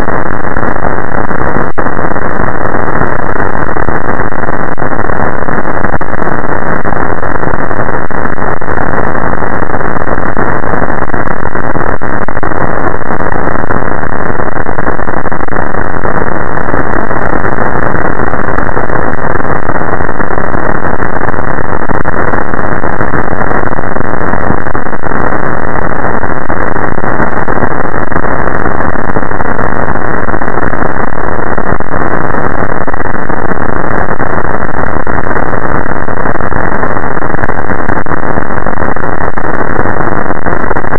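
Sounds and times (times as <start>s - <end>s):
loud muffled static hiss: 0.0s - 40.9s.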